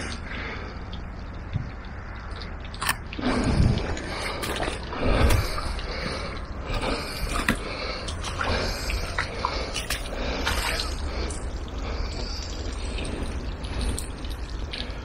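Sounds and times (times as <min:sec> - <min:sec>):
low rumbles: 0:00.0 - 0:15.0
stream trickling over stones: 0:00.0 - 0:15.0.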